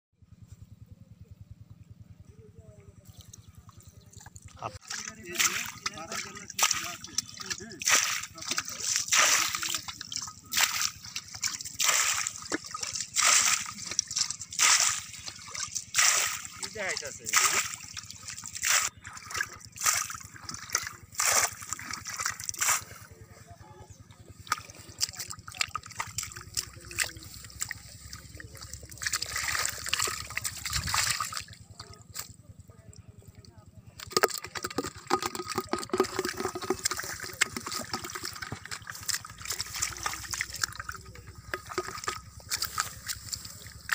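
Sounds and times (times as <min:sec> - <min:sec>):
water splashing and sloshing: 0:03.7 - 0:43.9.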